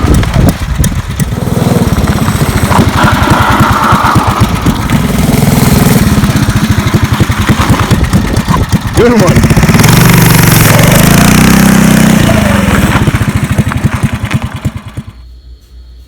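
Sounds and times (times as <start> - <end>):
small engine revving: 0.0 - 15.3.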